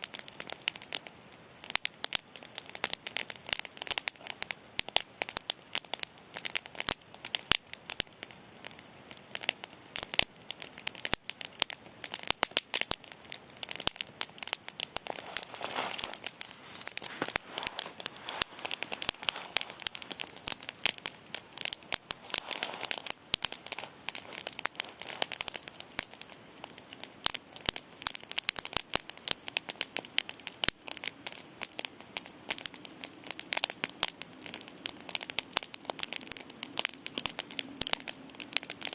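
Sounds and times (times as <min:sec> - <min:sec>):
campfire crackling and popping: 0:00.0 - 0:38.9
soft fire hiss: 0:00.0 - 0:38.9.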